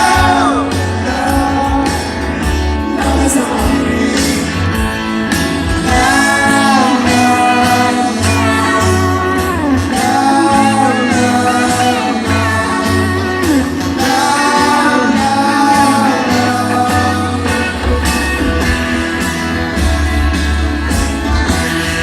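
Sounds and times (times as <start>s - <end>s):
lead vocal singing: 0.0s - 19.3s
live rock band playing: 0.0s - 22.0s.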